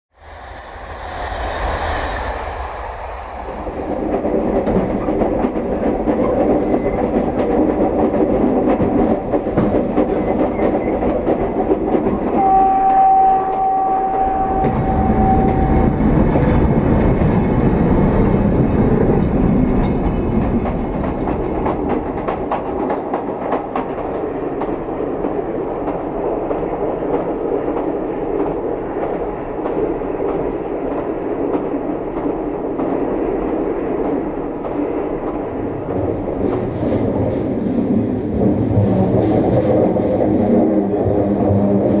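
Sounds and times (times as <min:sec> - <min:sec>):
train rumbling on rails: 0:00.1 - 0:42.0.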